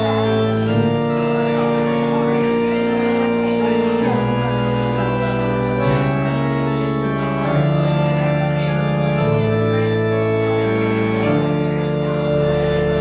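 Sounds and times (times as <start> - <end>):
organ playing held chords: 0.0 - 13.0.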